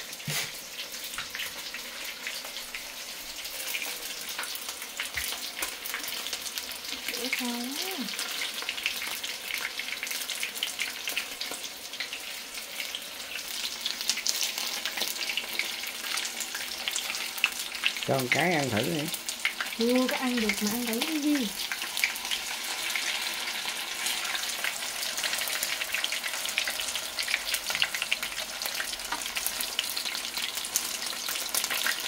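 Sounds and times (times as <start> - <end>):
chicken frying in oil: 0.0 - 32.0.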